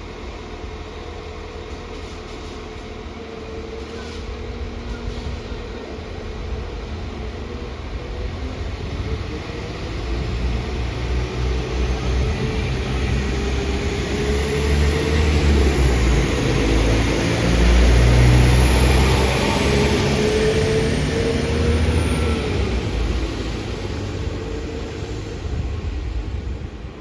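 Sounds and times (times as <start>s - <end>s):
train passing: 0.0s - 27.0s.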